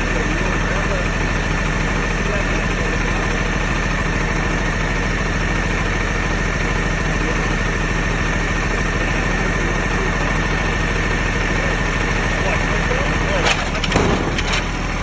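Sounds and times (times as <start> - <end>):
garbage truck engine idling: 0.0 - 15.0.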